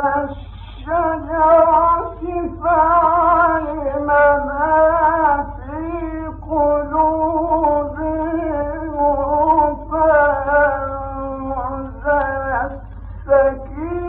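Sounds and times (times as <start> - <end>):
low hum: 0.0 - 14.0
man reciting in chant: 0.0 - 14.0.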